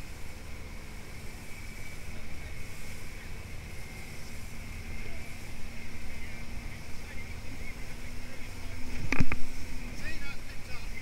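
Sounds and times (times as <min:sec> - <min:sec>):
boat engine whining: 0:00.0 - 0:11.0
water rushing past hull: 0:00.0 - 0:11.0.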